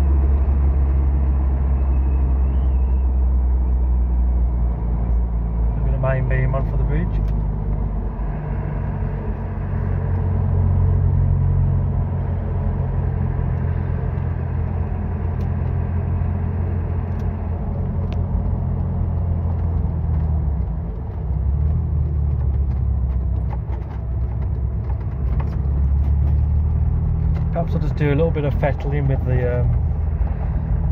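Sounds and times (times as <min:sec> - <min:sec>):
car engine and road rumble: 0:00.0 - 0:30.9.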